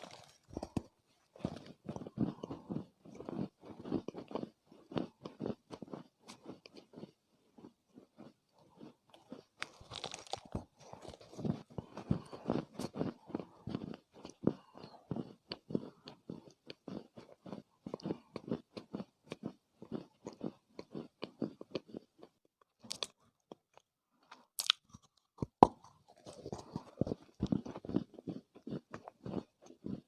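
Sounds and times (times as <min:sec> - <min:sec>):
chewing crunchy clay: 0:00.0 - 0:30.0.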